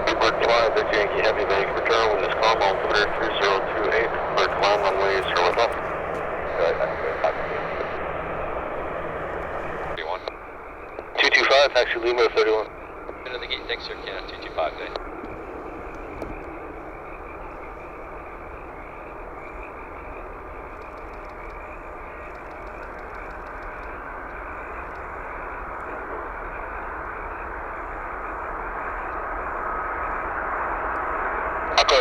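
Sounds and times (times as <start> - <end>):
faint engine whine: 0.0 - 32.0
jet engine rush: 0.0 - 32.0.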